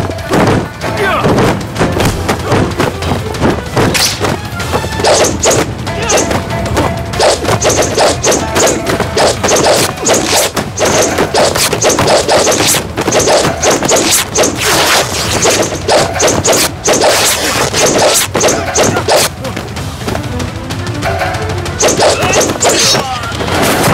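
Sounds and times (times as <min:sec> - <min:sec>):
fight hits: 0:00.0 - 0:19.3, 0:21.8 - 0:23.9
swishes: 0:01.4 - 0:19.4, 0:21.8 - 0:23.9.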